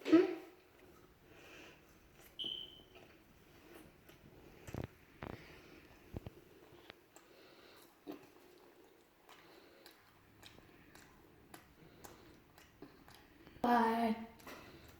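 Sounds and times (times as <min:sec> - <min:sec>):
chewing crunchy food: 0:00.7 - 0:13.6, 0:14.3 - 0:14.9.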